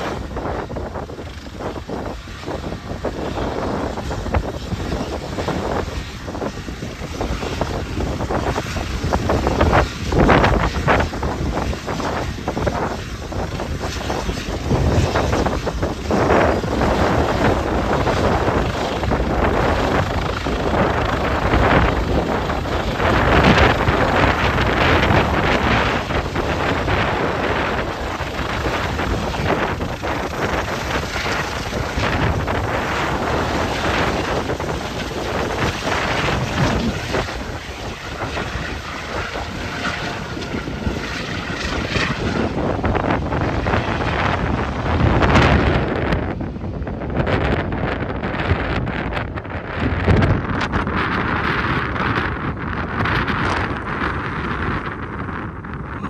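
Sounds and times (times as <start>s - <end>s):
gusty wind buffeting microphone: 0.0s - 56.0s.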